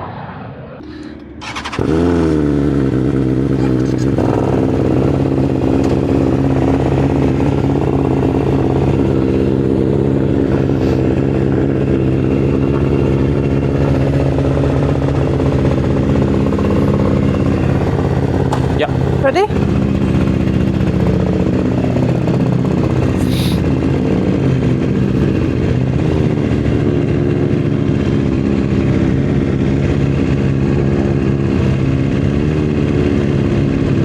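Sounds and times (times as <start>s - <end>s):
motorcycle engine idling: 1.0s - 34.0s.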